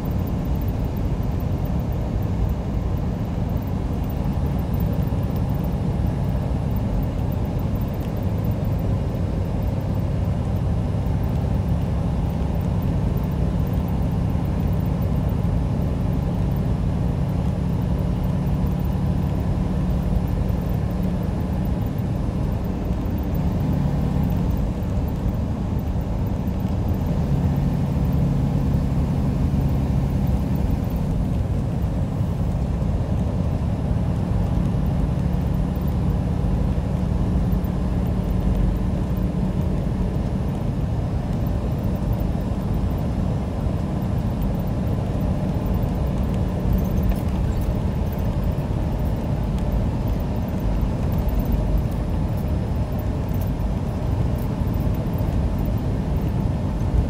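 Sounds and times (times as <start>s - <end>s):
low hum: 0.0s - 57.0s
truck engine drone: 0.0s - 57.0s.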